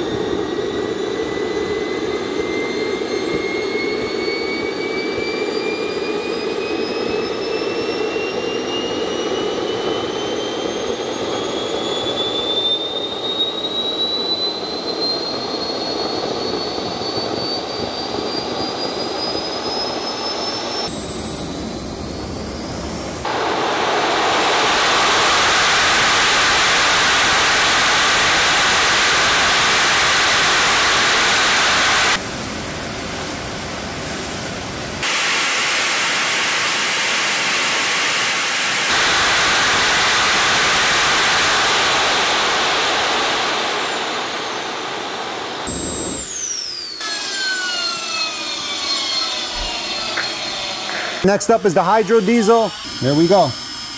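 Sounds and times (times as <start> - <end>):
model turbine jet engine roaring: 0.0 - 53.9.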